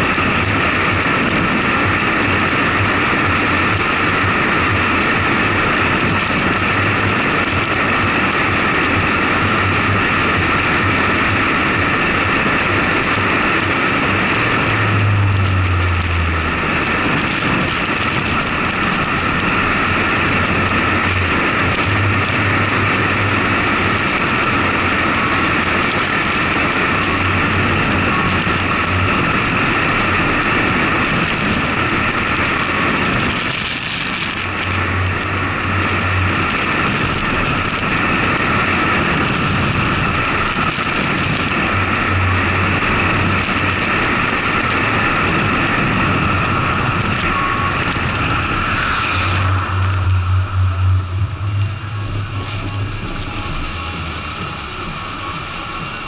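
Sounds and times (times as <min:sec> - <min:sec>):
low wind buffeting: 0:00.0 - 0:56.0
tyre road noise: 0:00.0 - 0:56.0
wind rushing: 0:00.0 - 0:56.0.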